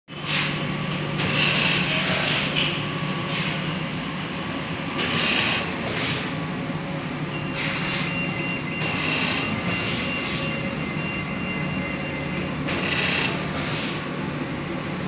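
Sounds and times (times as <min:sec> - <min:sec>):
machine mechanical hum: 0:00.1 - 0:15.0.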